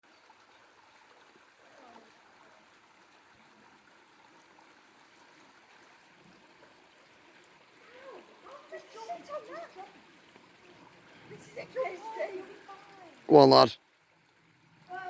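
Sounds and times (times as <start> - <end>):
faint outdoor hiss: 0.1 - 14.3.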